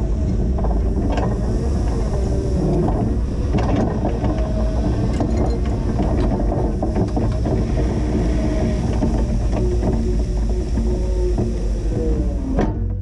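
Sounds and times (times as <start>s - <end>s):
clanks and rattles: 0.0s - 13.0s.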